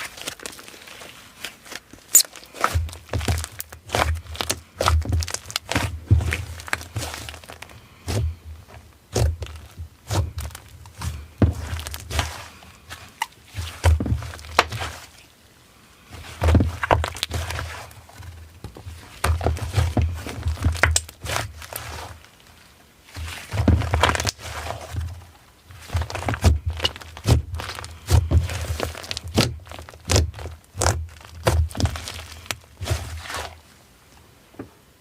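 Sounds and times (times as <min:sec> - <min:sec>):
slime squished by hand: 0:00.0 - 0:15.2, 0:16.2 - 0:22.3, 0:23.1 - 0:25.0, 0:25.8 - 0:33.6.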